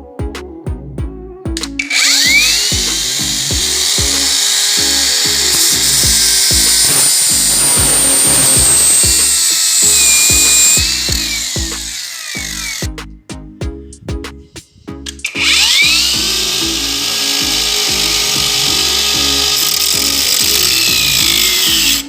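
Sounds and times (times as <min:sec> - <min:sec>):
background music with beat: 0:00.0 - 0:22.0
angle grinder whining: 0:01.8 - 0:12.8, 0:15.4 - 0:22.0.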